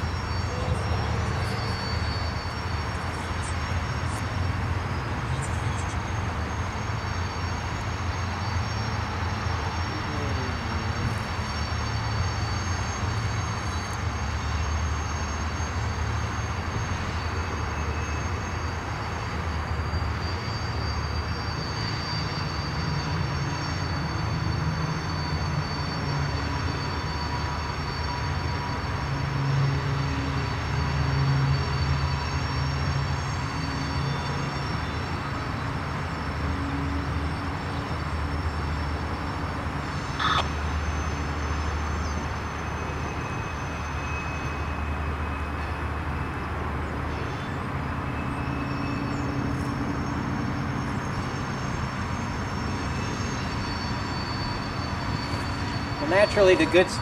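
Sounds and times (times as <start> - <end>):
freight train cars rumbling past: 0.0 - 57.0.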